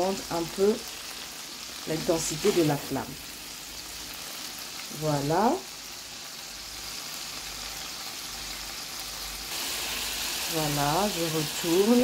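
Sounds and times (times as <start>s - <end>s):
prawns sizzling in a frying pan: 0.0s - 12.0s.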